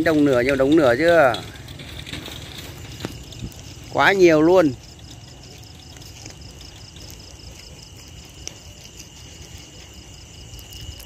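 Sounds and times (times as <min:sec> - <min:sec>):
crickets trilling: 0:00.0 - 0:11.0
rapid cricket chirps: 0:00.0 - 0:11.0.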